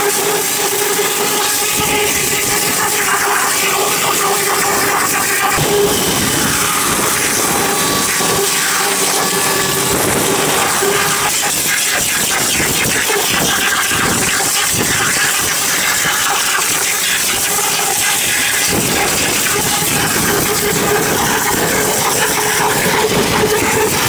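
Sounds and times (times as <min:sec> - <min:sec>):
engine running: 0:00.0 - 0:24.0
pressure washer water jet hissing: 0:00.0 - 0:24.0.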